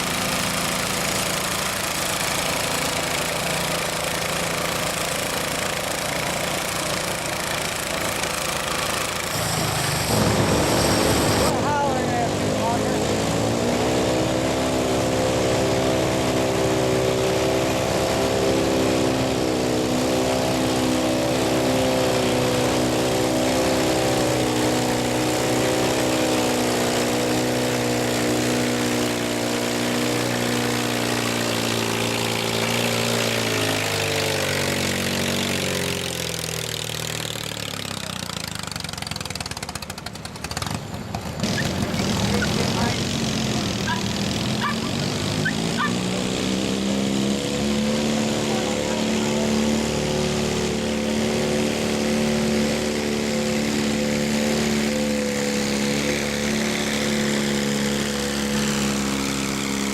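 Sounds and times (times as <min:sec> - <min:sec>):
lawn mower engine revving: 0:00.0 - 0:59.9.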